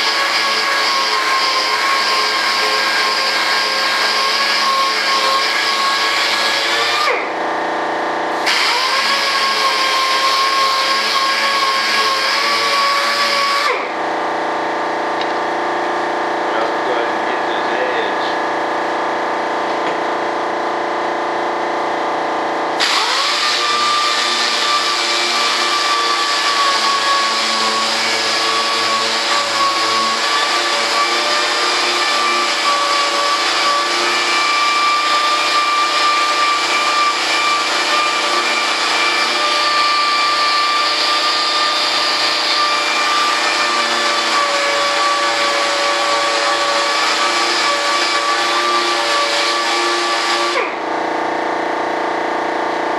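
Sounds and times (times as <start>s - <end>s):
electric machine motor whine: 0.0s - 52.9s.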